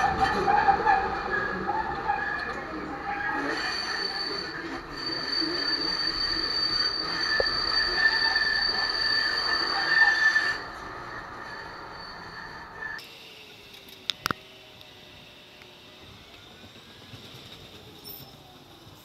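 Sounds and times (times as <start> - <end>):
tram rolling noise: 0.0 - 19.0
tram wheels squealing on rails: 0.0 - 19.0.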